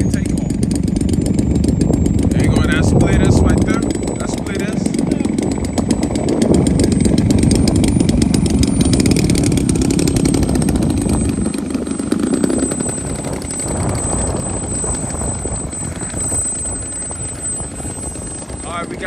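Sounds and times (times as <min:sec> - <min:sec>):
model aircraft engine running: 0:00.0 - 0:19.0
thin high whine: 0:00.0 - 0:19.0.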